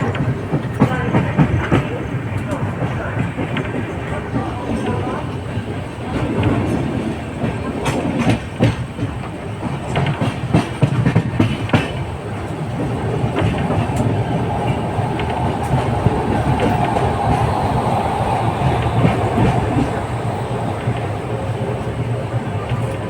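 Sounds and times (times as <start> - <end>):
train rumble: 0.0 - 23.0
train wheels clattering: 0.0 - 23.0.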